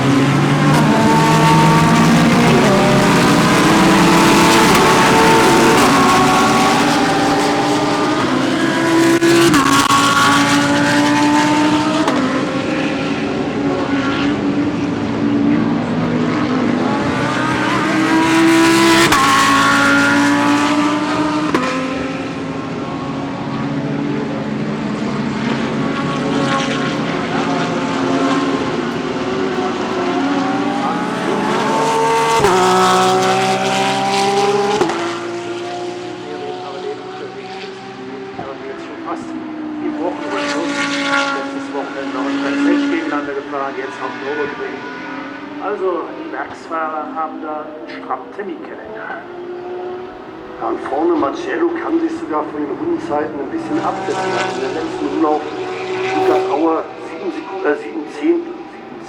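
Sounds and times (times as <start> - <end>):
race cars accelerating: 0.0 - 59.0.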